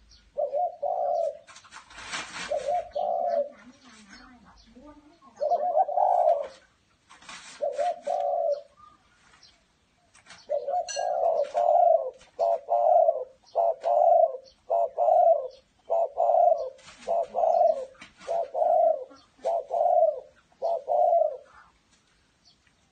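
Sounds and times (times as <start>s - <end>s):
dove cooing: 0.0s - 6.8s, 7.4s - 9.0s, 10.4s - 21.7s.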